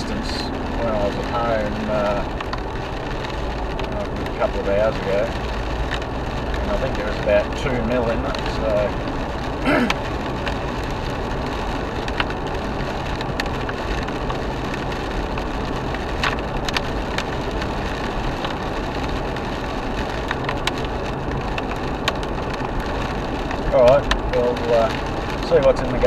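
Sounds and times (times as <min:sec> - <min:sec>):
car road noise on wet road: 0:00.0 - 0:26.0
low engine hum: 0:00.0 - 0:26.0.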